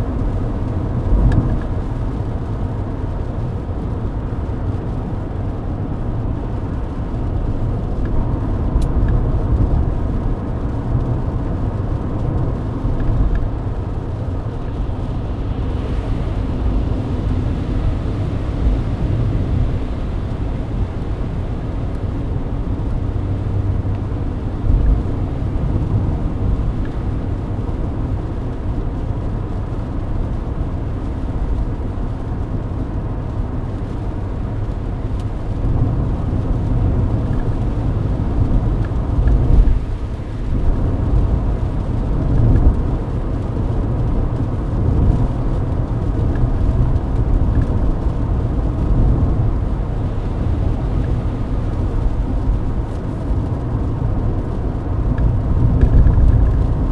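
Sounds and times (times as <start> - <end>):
car cabin road rumble: 0.0 - 56.9.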